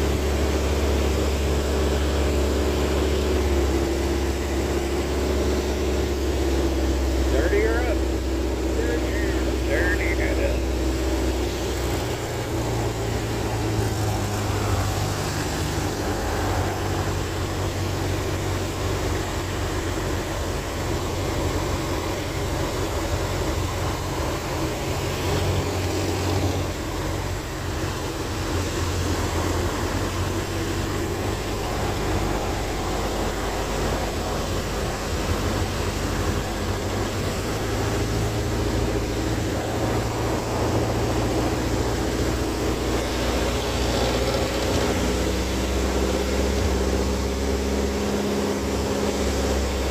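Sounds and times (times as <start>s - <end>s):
aircraft engine drone in cockpit: 0.0s - 49.9s.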